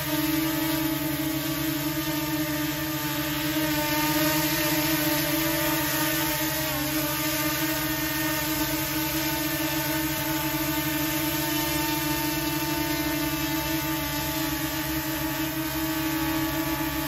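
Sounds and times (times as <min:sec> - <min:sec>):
drone propellers buzzing whine: 0:00.0 - 0:17.0.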